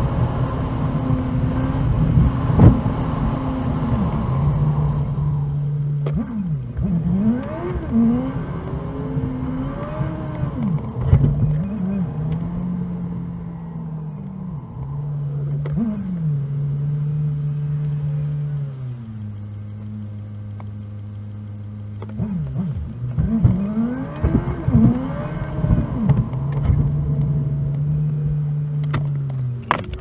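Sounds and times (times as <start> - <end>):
sped-up car engine hum: 0.0 - 30.0.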